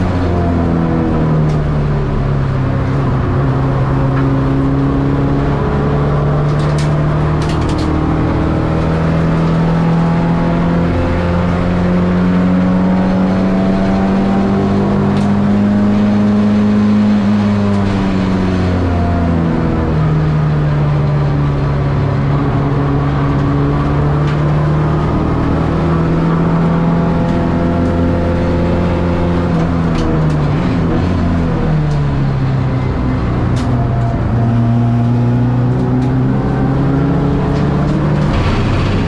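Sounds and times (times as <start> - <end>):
car engine revving from inside cabin: 0.0 - 39.0.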